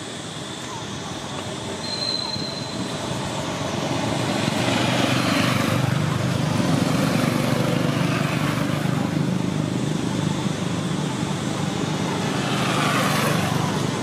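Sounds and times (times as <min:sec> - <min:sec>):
passing vehicle engine rumble: 0:00.7 - 0:14.0.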